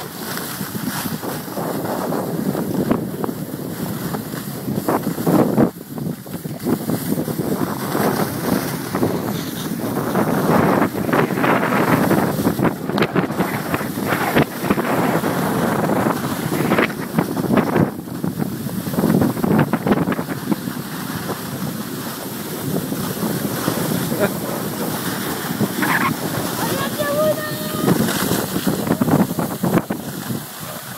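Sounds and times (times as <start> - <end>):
skis scraping on snow: 0.0 - 30.9
wind buffeting microphone: 0.0 - 30.9.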